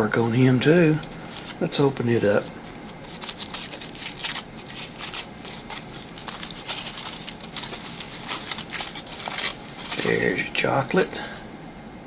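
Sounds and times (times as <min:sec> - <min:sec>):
foil wrapper crinkling: 0:00.6 - 0:11.1.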